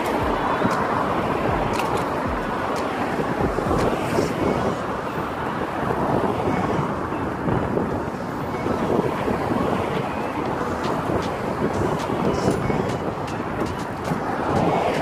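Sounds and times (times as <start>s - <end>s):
passing road traffic: 0.0s - 15.0s
wind buffeting microphone: 0.0s - 15.0s.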